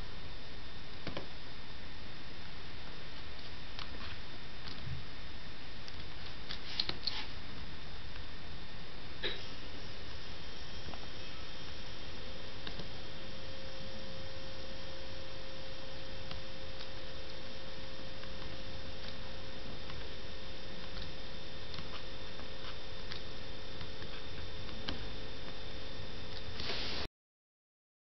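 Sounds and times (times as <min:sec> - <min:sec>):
steady hiss: 0:00.0 - 0:27.1
thin electrical hum: 0:00.0 - 0:27.1.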